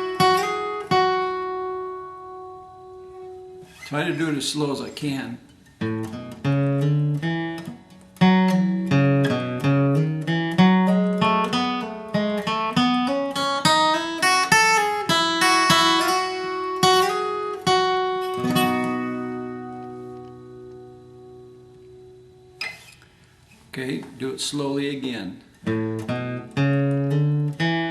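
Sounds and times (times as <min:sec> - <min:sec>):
acoustic guitar melody: 0:00.0 - 0:27.9.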